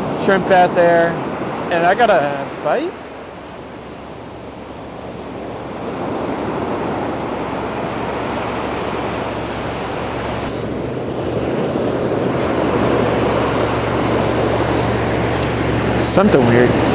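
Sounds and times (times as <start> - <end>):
ocean surf washing up beach: 0.0 - 16.9.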